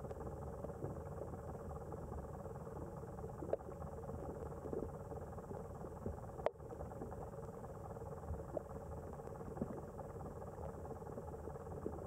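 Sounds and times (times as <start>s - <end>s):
underwater low rumble: 0.0s - 12.0s.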